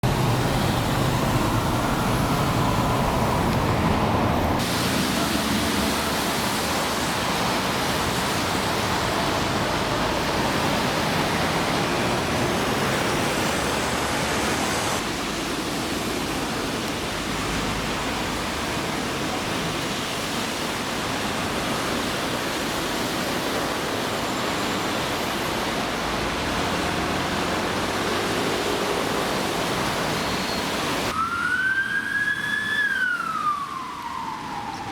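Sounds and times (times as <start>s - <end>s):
torrential rain falling: 0.0s - 34.9s.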